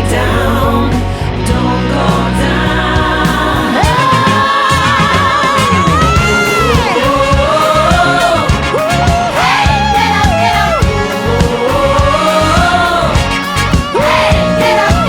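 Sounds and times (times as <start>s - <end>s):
pop song with wordless vocals: 0.0s - 15.0s.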